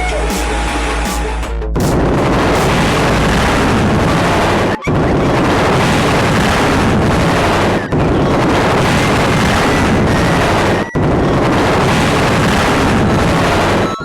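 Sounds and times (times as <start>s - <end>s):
dense rumbling noise: 0.0s - 14.0s.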